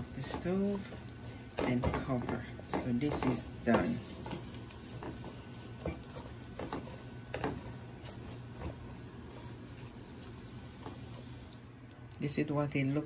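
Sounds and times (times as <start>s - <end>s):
spoon scraping and knocking pan: 0.0s - 11.5s
wooden spoon stirring vegetables: 0.0s - 11.9s
steady low hum: 0.0s - 13.0s.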